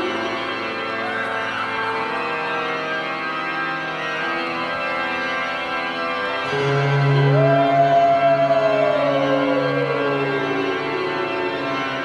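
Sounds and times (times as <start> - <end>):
eerie organ music: 0.0 - 12.0.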